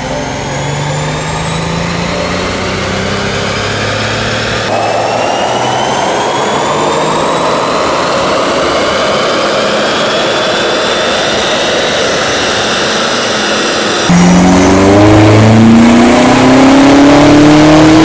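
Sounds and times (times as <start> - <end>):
car engine revving under load: 0.0 - 9.8, 13.0 - 18.0
dyno rollers whining: 0.0 - 18.0.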